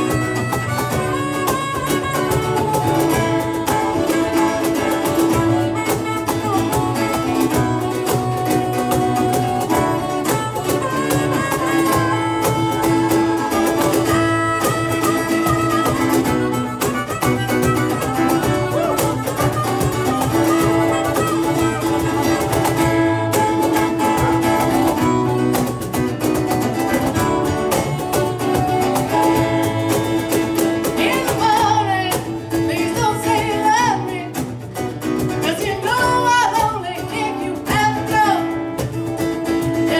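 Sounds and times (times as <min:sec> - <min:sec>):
person singing: 0:00.0 - 0:14.2, 0:18.0 - 0:25.5, 0:27.3 - 0:34.5, 0:35.4 - 0:38.8
live band playing: 0:00.0 - 0:39.9.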